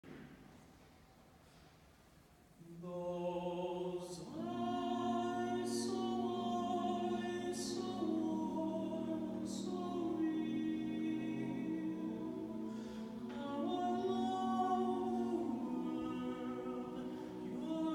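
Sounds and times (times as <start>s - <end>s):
barbershop harmony singing: 2.7s - 17.9s.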